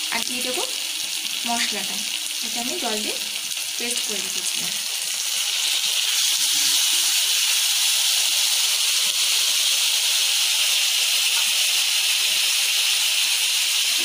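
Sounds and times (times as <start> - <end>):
spice paste sizzling in hot oil: 0.0 - 14.0.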